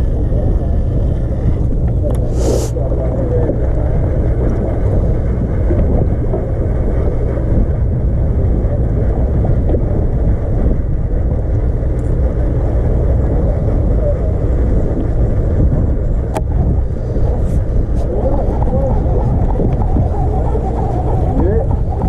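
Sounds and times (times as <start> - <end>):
boat engine rumbling: 0.0 - 22.0
wind buffeting microphone: 0.0 - 22.0.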